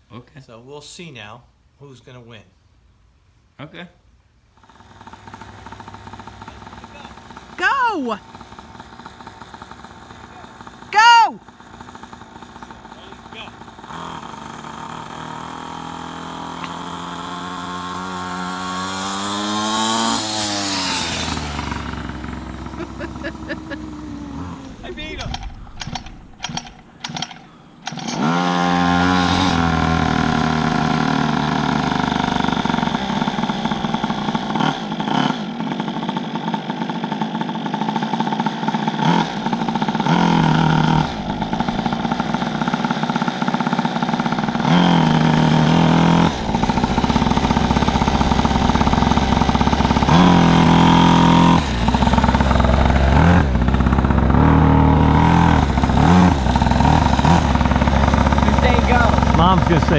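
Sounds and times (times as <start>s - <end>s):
small gasoline engine revving: 4.6s - 59.9s.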